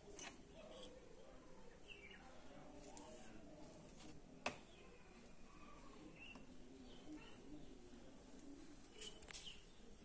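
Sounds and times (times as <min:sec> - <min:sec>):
faint bird chirp: 0:00.0 - 0:03.6, 0:04.5 - 0:10.0.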